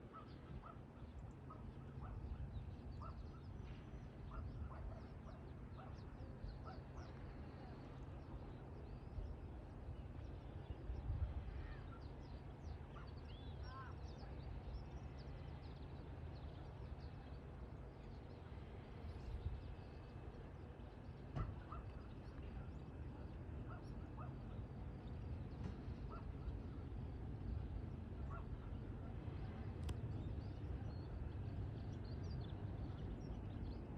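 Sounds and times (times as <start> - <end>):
low rumble of wind: 0.0 - 33.9.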